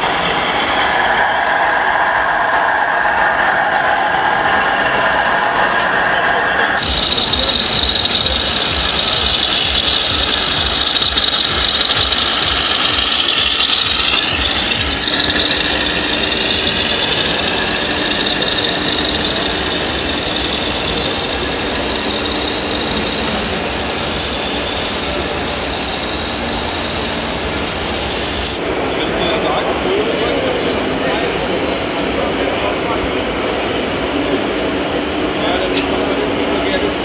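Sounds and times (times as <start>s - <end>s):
electric motor and gear whine: 0.0s - 37.0s
mechanical hum: 0.0s - 37.0s.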